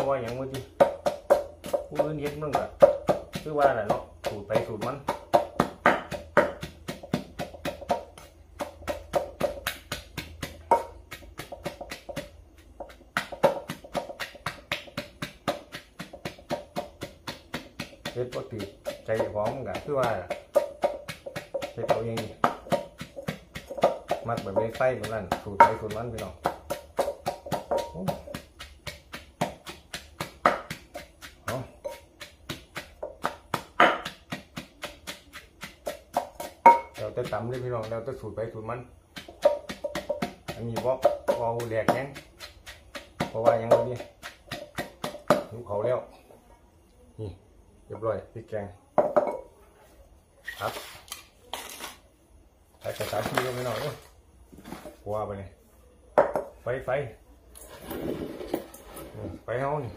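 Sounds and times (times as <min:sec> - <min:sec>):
wooden pestle pounding in mortar: 0:00.0 - 0:45.9, 0:48.9 - 0:49.5, 0:52.9 - 0:55.1, 0:56.0 - 0:56.6.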